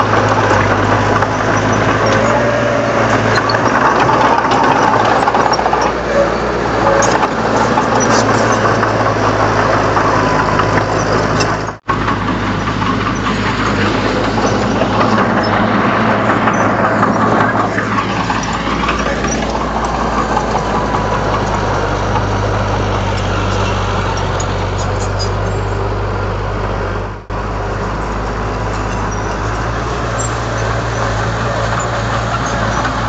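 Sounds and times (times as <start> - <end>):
machine rattling: 0.0 - 25.9, 27.3 - 33.0
bulldozer diesel engine running: 0.0 - 33.0.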